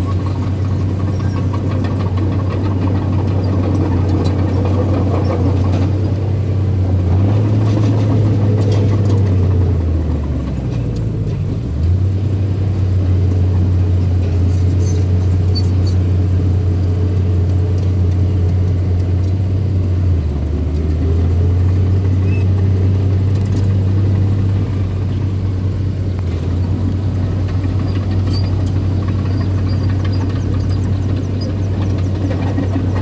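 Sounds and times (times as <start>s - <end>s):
bulldozer diesel engine droning: 0.0s - 33.0s.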